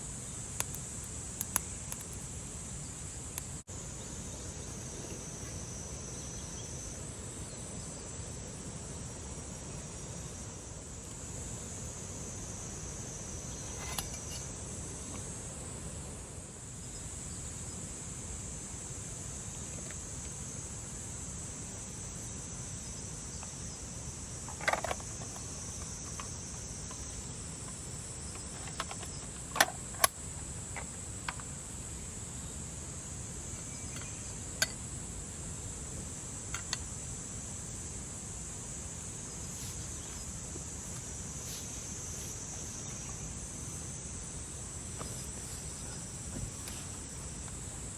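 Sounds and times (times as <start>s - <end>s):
insects chirping chorus: 0.0s - 47.9s.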